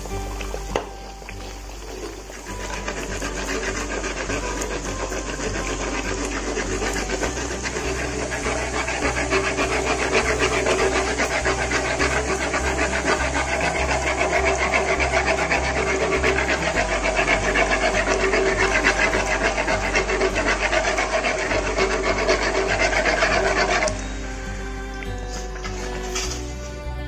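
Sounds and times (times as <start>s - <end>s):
oil sizzling and crackling: 0.0s - 27.0s.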